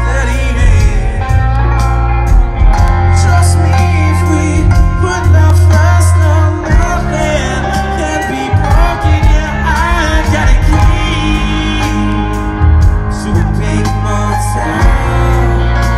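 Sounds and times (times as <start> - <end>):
person singing: 0.0 - 15.9
rock band playing live: 0.0 - 15.9.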